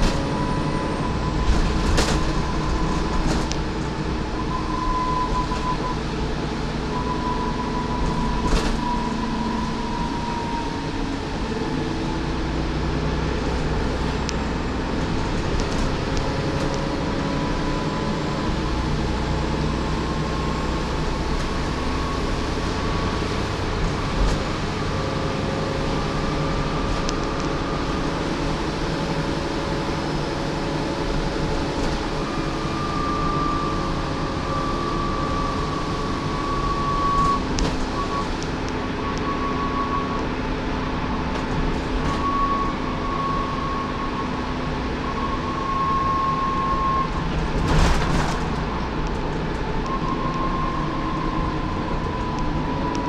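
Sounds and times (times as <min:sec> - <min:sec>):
bus diesel engine and road noise: 0:00.0 - 0:53.0.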